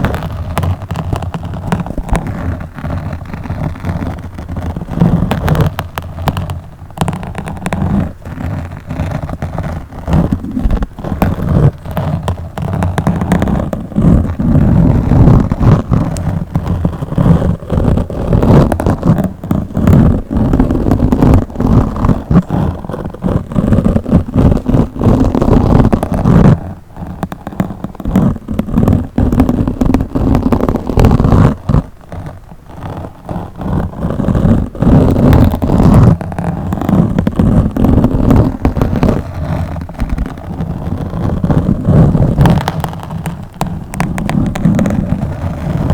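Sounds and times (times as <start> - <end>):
scratching on a microphone: 0.0 - 45.9.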